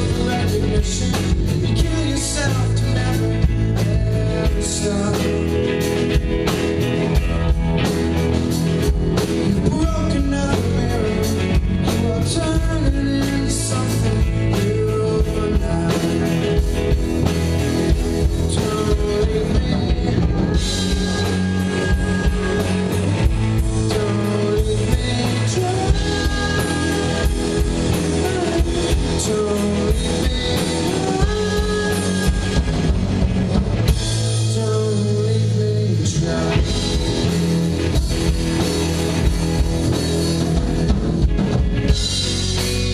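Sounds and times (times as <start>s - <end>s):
lead vocalist singing: 0.0s - 6.4s, 9.2s - 42.9s
drum kit beat: 0.0s - 35.6s, 36.3s - 42.9s
electric guitars: 0.0s - 42.9s.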